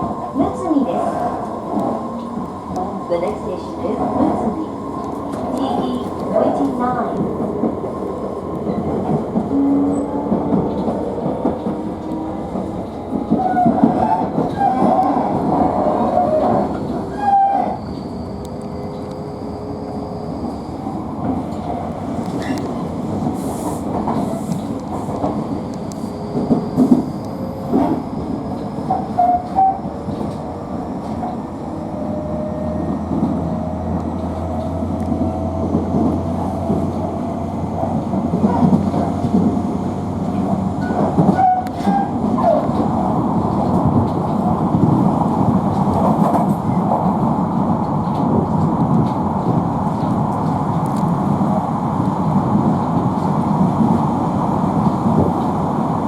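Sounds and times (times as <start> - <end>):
train wheel and rail rumble: 0.0 - 56.0.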